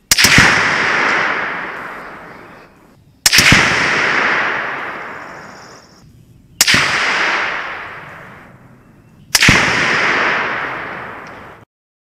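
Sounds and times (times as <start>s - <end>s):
rifle shots with echo: 0.0s - 5.8s, 6.6s - 8.7s, 9.3s - 11.6s.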